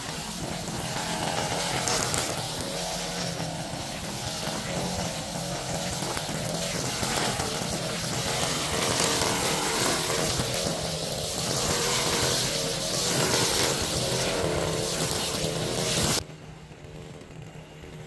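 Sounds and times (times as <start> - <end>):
high hiss: 0.0 - 16.2
small gasoline engine running: 0.0 - 18.0.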